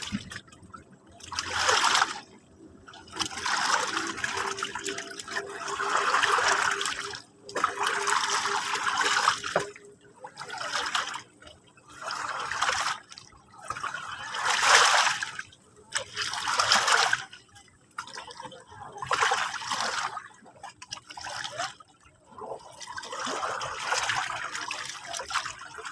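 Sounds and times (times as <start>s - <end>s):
small sea waves washing: 0.0s - 25.9s.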